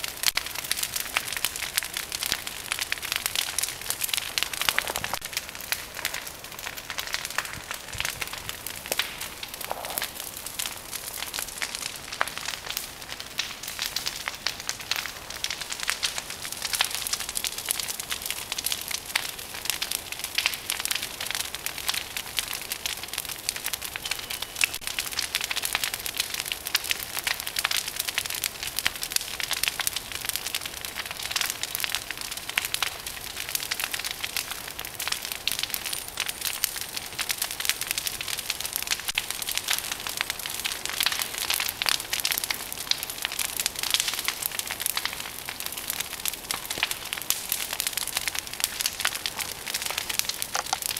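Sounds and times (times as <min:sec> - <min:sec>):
bonfire crackling and popping: 0:00.0 - 0:50.9.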